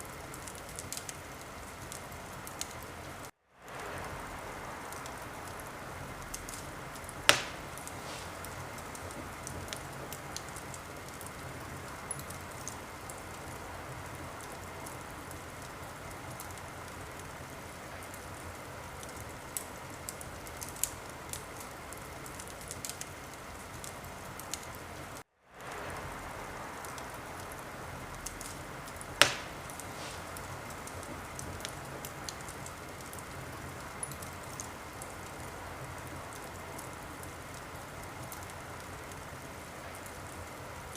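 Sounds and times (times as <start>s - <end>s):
wood fire hissing and crackling: 0.0s - 40.9s
loud fire pops: 0.1s - 40.6s.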